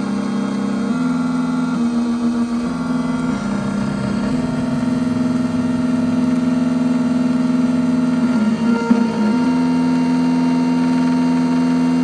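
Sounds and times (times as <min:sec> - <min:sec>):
key cutting machine motor hum: 0:00.0 - 0:12.0.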